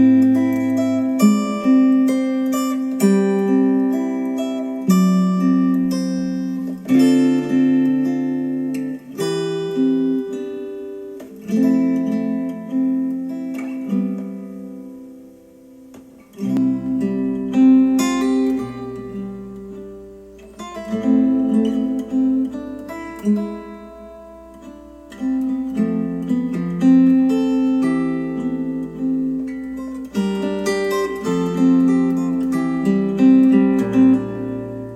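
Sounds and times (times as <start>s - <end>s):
acoustic guitar music: 0.0s - 34.9s.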